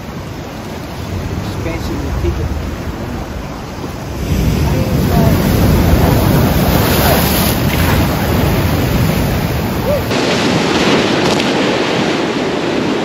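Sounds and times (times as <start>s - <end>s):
ocean waves breaking over rocks: 0.0s - 13.0s.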